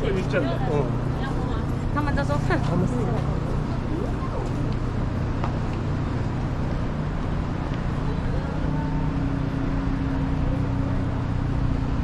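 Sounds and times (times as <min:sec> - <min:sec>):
road traffic rumble: 0:00.0 - 0:12.0
vehicle engine drone: 0:00.0 - 0:12.0.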